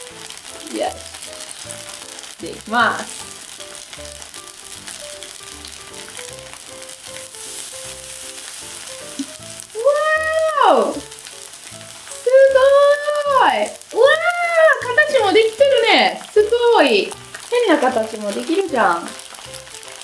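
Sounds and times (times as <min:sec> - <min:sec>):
light background music: 0:00.0 - 0:20.0
noodles deep-frying sizzle: 0:00.0 - 0:20.0.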